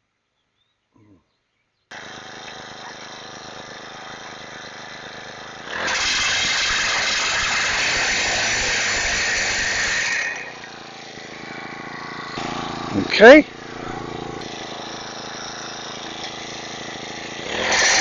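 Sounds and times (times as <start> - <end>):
small engine idling and revving: 1.9 - 18.0.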